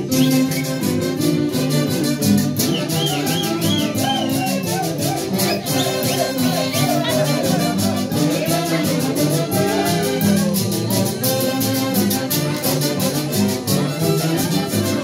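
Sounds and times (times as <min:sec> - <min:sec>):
horns playing melody: 0:00.0 - 0:15.0.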